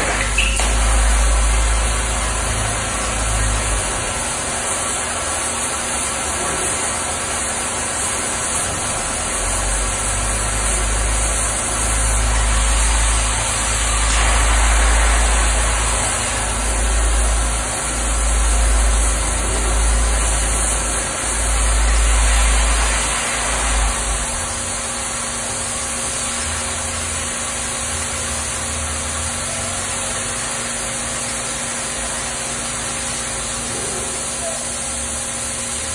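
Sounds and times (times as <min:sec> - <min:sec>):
plasma cutting machine hiss and hum: 0:00.0 - 0:35.9.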